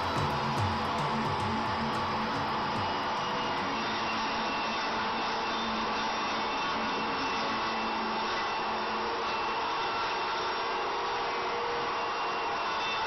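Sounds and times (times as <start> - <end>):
table saw motor whirring: 0.0 - 13.0.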